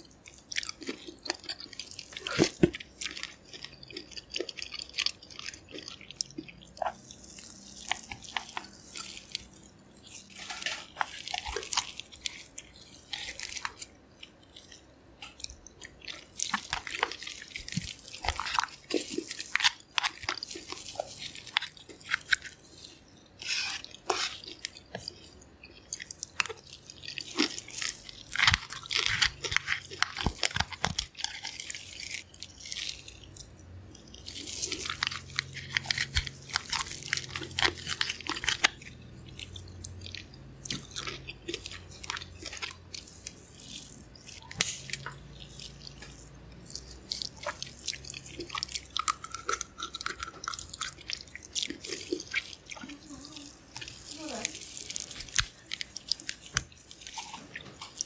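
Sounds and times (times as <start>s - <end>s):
biting and chewing: 0.0s - 58.0s
crab shell cracking wetly: 0.5s - 58.0s.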